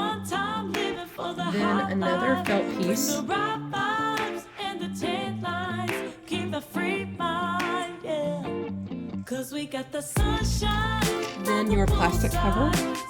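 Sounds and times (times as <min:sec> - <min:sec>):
person singing: 0:00.0 - 0:08.6, 0:09.3 - 0:13.0.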